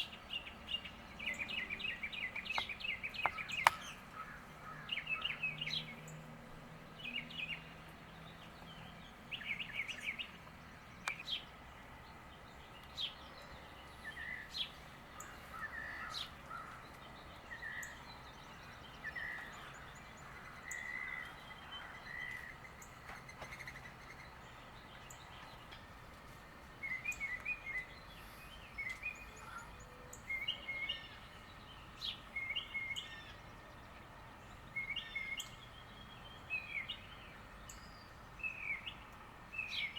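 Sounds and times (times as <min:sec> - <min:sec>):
faint steady background noise: 0:00.0 - 0:39.9
small birds chirping: 0:00.0 - 0:39.9.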